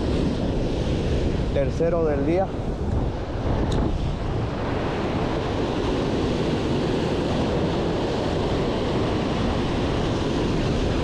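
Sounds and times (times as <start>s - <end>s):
waves washing on beach: 0.0s - 11.0s
wind rumbling on microphone: 0.0s - 11.0s.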